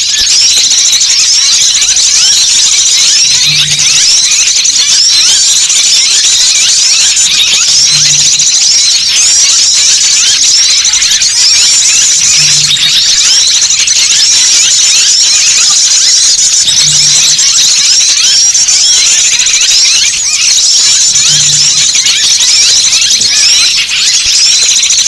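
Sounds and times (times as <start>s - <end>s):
chorus of small birds chirping: 0.0s - 25.0s.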